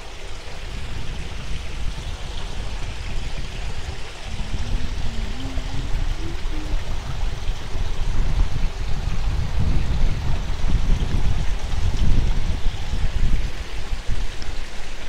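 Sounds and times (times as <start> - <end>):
waterfall splashing into pond: 0.0 - 15.0
wind on microphone: 0.0 - 15.0.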